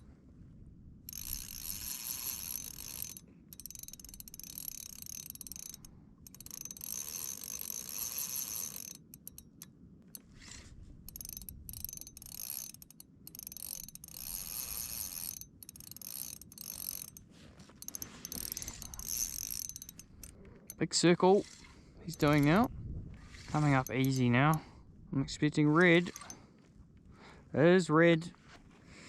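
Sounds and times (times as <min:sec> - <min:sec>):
fishing reel whirring and clicking: 0:01.0 - 0:20.8, 0:21.4 - 0:24.7, 0:25.3 - 0:26.4.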